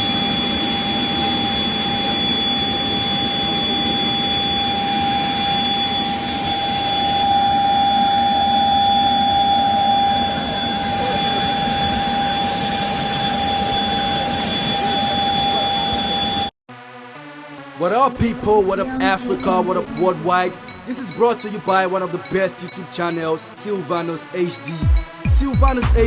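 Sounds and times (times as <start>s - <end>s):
jet engine running: 0.0s - 16.5s, 17.6s - 25.8s.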